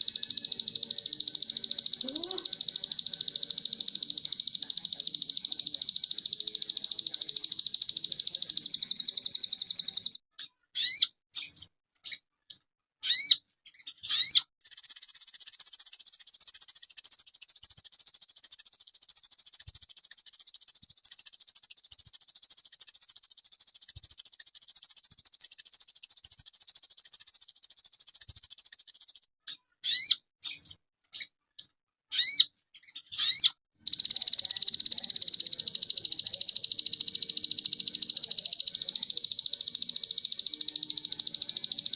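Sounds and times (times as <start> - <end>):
bird high rapid trill: 0.0 - 10.2, 14.1 - 29.3, 33.2 - 41.9
bird sharp upward chirps: 0.0 - 10.2, 14.1 - 29.3, 33.2 - 41.9.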